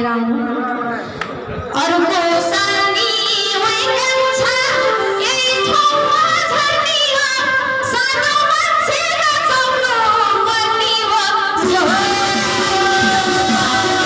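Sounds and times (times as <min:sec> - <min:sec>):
woman singing through loudspeaker: 0:00.0 - 0:00.6, 0:01.7 - 0:14.0.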